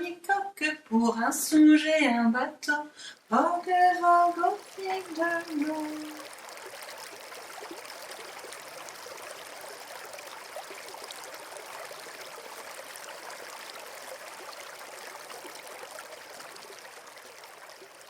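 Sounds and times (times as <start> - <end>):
small water splashes: 3.0 - 18.0
water trickling in a basin: 3.0 - 18.0.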